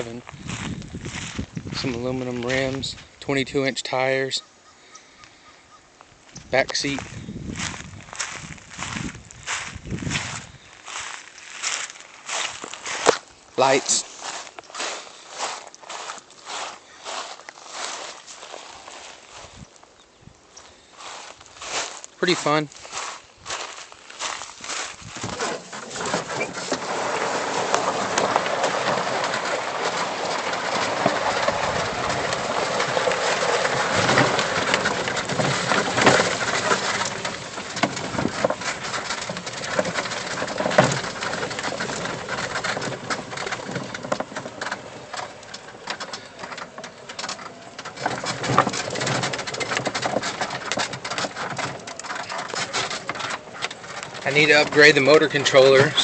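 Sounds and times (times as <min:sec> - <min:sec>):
golf cart rattling and knocking: 0:00.0 - 0:03.7, 0:06.4 - 0:19.6, 0:21.0 - 0:56.0
tyres rushing on dirt: 0:00.0 - 0:04.4, 0:06.4 - 0:19.6, 0:21.0 - 0:56.0.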